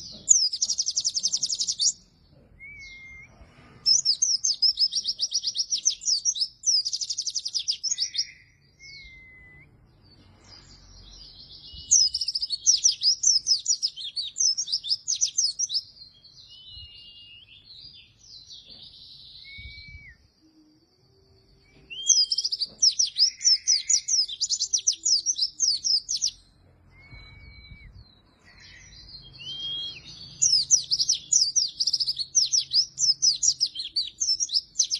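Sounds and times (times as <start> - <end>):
bird singing chattering phrases: 0.0 - 9.1, 9.8 - 19.4, 21.7 - 27.4, 28.2 - 34.9
thin whistled bird notes: 2.6 - 34.9.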